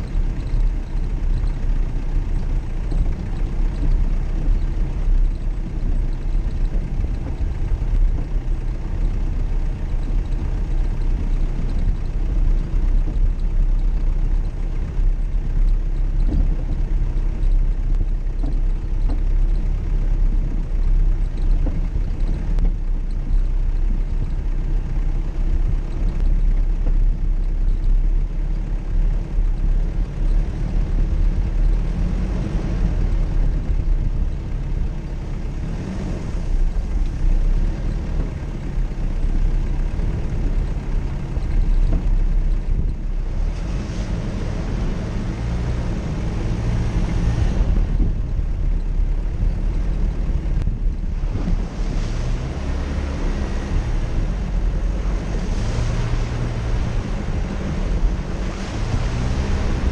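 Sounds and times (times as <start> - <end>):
vehicle engine rumble: 0.0 - 59.9
wind buffeting microphone: 0.0 - 59.9.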